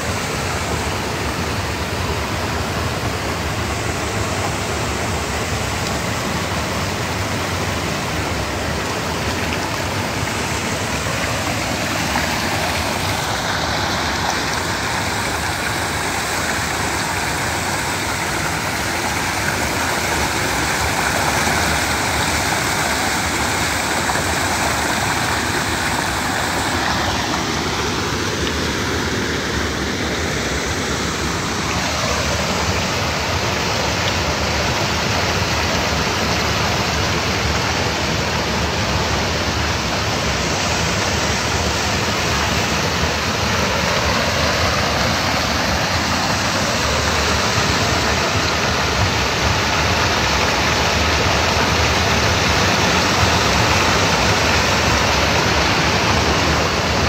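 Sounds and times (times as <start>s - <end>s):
stream water rushing over rock: 0.0s - 57.0s.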